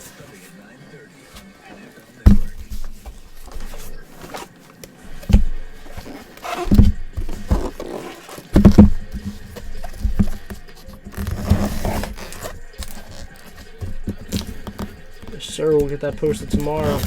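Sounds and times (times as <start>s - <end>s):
packaging rustling: 0.0s - 17.0s
packaging thumps on table: 2.2s - 17.0s.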